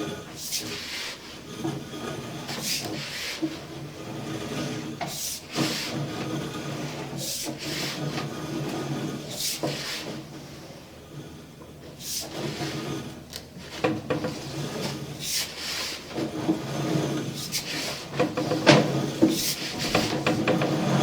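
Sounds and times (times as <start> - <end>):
cable rubbing and scraping in pipe: 0.0 - 21.0.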